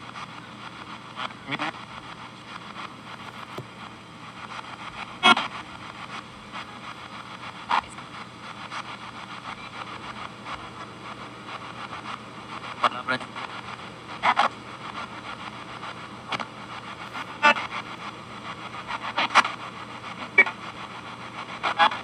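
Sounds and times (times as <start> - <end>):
radio static: 0.0 - 22.0
snatches of broadcast sound: 0.1 - 22.0.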